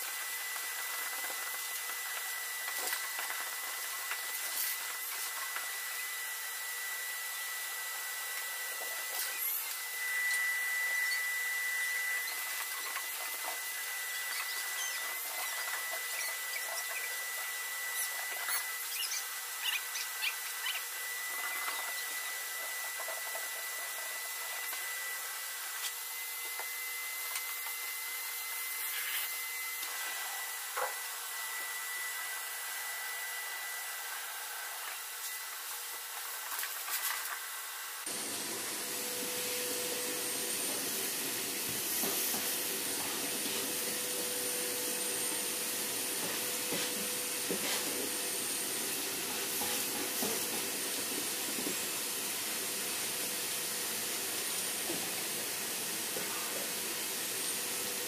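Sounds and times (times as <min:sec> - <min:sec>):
shop vac running with whine: 0:00.0 - 0:58.0.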